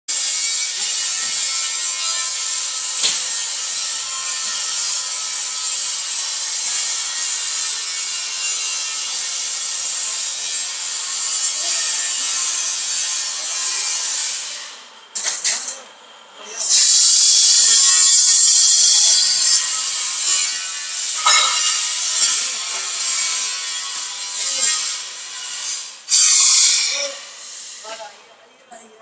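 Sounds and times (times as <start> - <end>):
workshop machinery whirring: 0.1 - 28.1.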